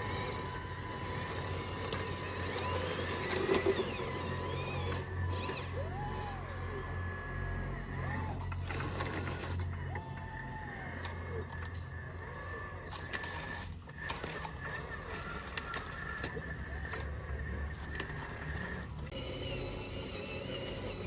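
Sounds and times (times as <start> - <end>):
motor whines: 0.0 - 21.0
steady low hum: 0.0 - 21.0.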